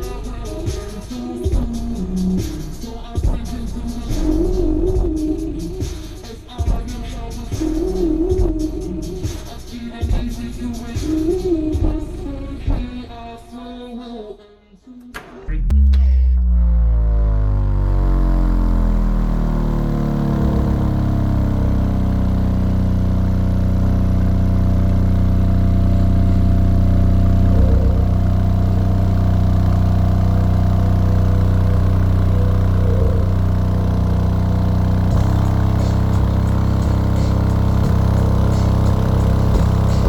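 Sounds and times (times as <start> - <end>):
bass-heavy music from subwoofers: 0.0 - 14.2, 15.5 - 40.0.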